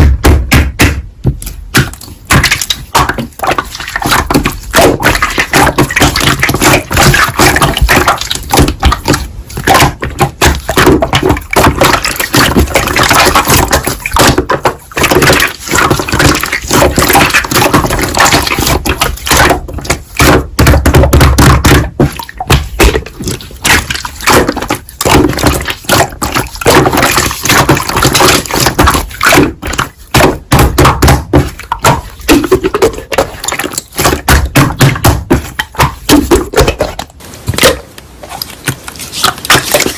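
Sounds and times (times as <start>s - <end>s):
slime squishing: 0.6s - 39.9s
slime popping and crackling: 0.8s - 37.8s.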